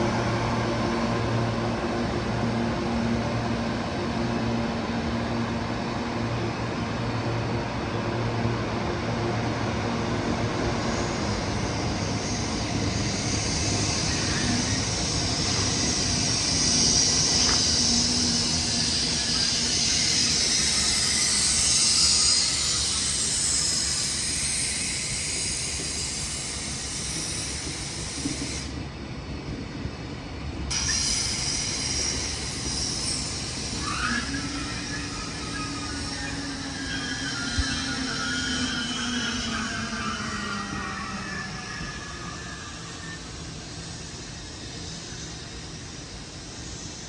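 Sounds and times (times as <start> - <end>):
train passing on rails: 0.0 - 47.0.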